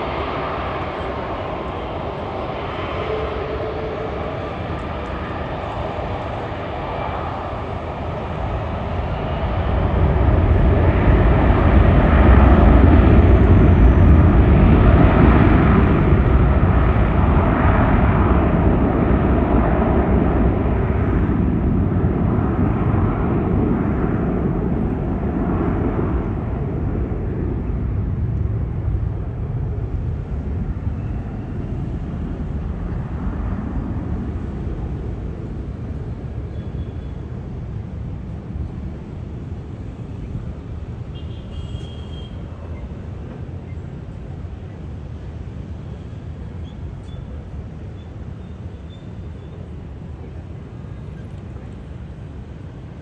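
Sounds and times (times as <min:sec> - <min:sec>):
airplane engine passing: 0:00.0 - 0:53.0.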